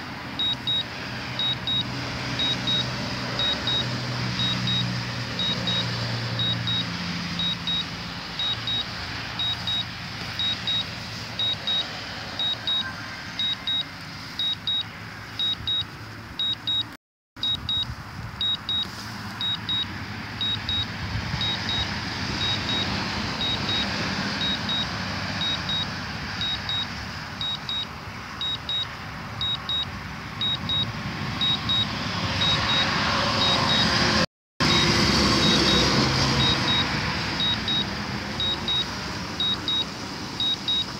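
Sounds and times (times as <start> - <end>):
high-pitched double beeps: 0.4 - 34.0, 34.6 - 40.9.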